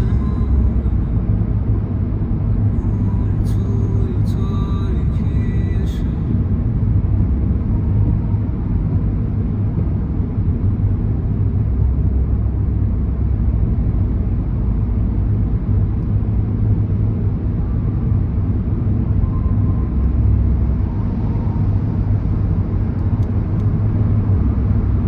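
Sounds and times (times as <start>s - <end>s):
car driving low rumble: 0.0s - 25.0s.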